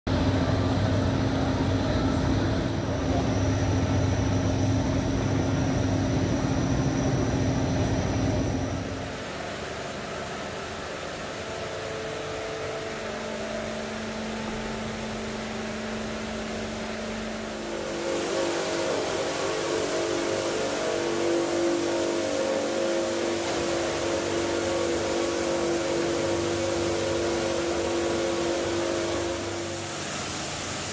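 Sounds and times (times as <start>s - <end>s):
carpet-beating machine droning: 0.1s - 30.9s
machine humming: 0.1s - 30.9s.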